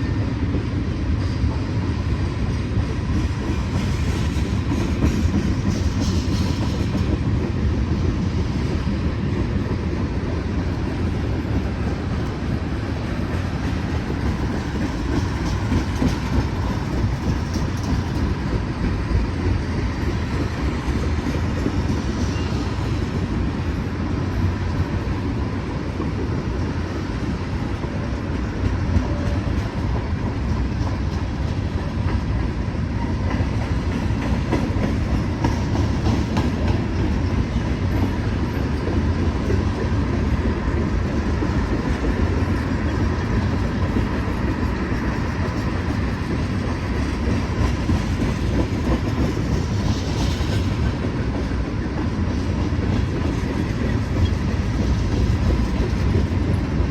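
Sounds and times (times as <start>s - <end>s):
freight train rolling past: 0.0s - 56.9s
steel wheels clattering on rails: 0.1s - 56.9s.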